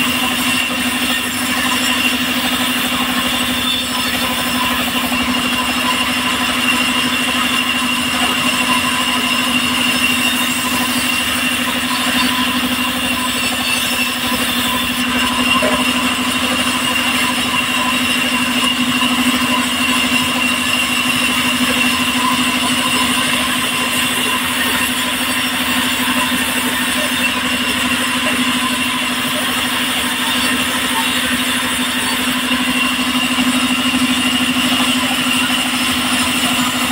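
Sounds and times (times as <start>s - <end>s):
saw blade whine: 0.0s - 36.9s.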